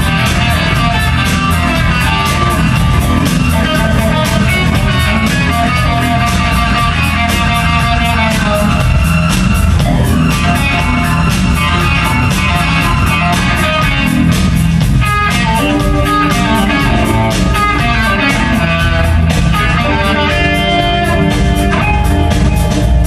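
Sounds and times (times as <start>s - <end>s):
drum kit with cymbals: 0.0s - 23.0s
electric bass: 0.0s - 23.0s
electric guitar: 0.0s - 23.0s.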